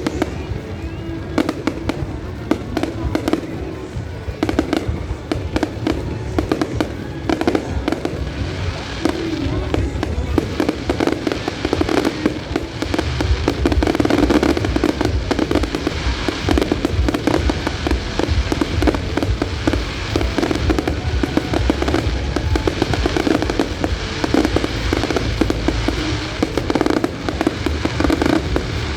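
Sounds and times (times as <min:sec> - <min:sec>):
fireworks bangs and crackles: 0:00.0 - 0:28.9
music playing: 0:00.0 - 0:28.9.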